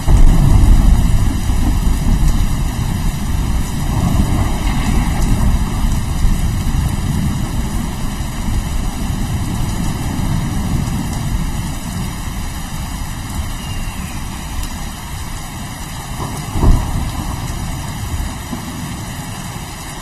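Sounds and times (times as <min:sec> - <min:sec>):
rolling thunder: 0:00.0 - 0:15.3, 0:16.0 - 0:19.5
steady rain: 0:00.0 - 0:20.0.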